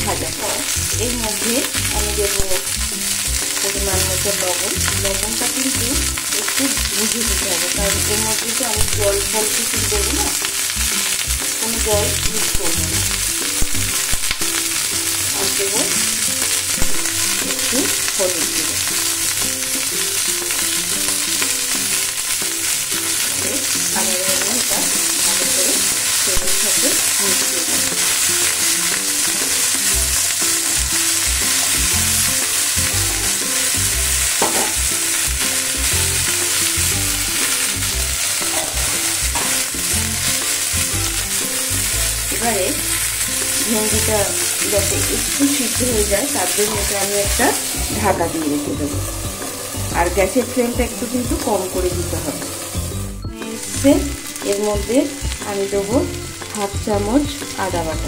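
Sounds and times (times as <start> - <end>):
okra sizzling in oil: 0.0 - 58.0.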